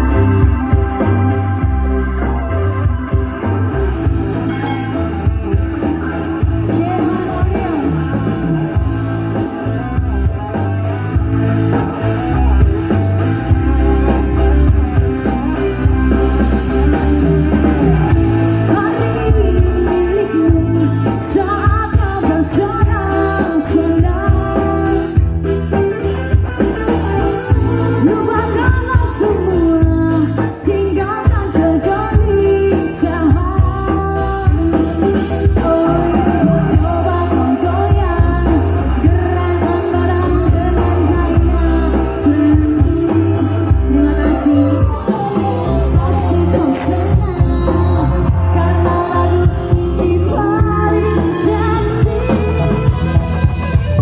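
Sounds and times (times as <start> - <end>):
song with singing and bass: 0.0 - 54.0.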